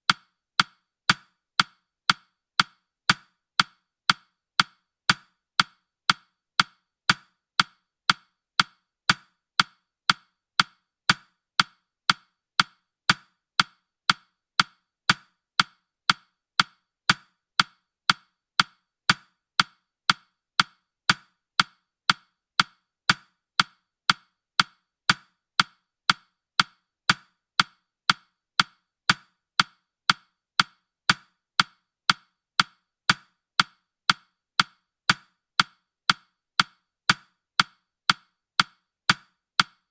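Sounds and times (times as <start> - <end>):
woody clock ticks: 0.0 - 39.9.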